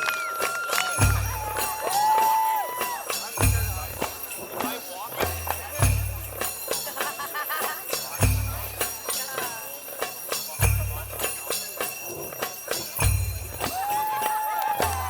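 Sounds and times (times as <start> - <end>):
jingling bell-like percussion: 0.0 - 15.0.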